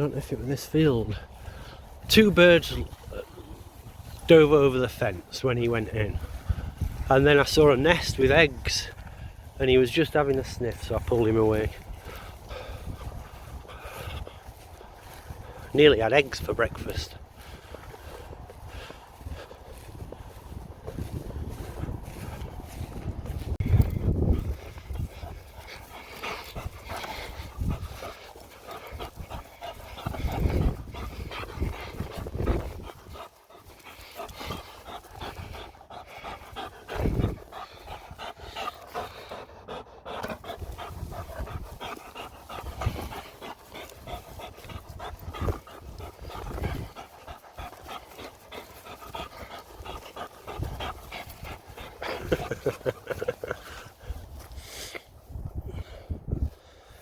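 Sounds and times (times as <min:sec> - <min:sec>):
dog panting: 0:00.0 - 0:57.0.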